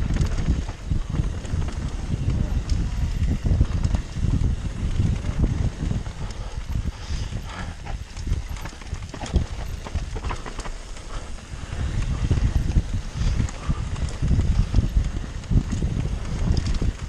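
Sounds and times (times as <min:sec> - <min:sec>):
bike clattering and rattling: 0:00.0 - 0:17.0
wind rumble on microphone: 0:00.0 - 0:17.0.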